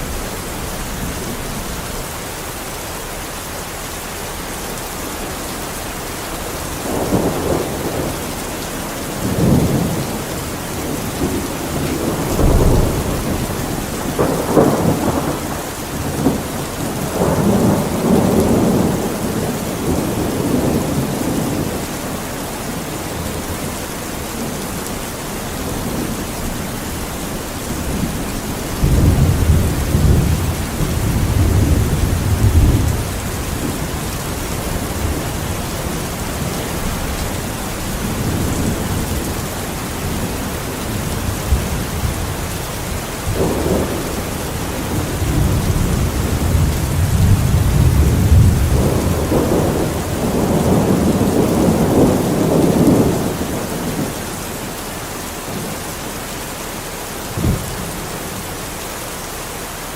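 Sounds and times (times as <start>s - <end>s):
steady rain: 0.0s - 59.9s
thunder rumbling: 4.6s - 54.8s, 57.3s - 58.4s.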